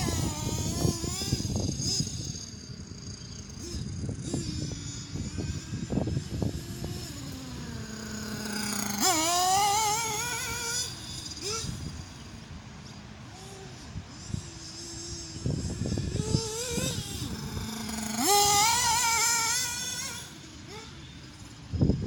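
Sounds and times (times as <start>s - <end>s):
model car engine revving: 0.0s - 22.0s.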